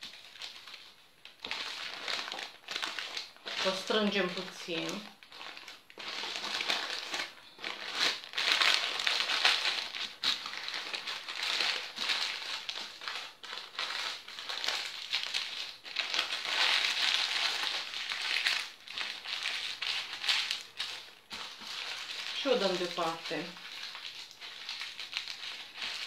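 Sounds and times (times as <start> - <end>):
baking paper crinkling: 0.0 - 26.0.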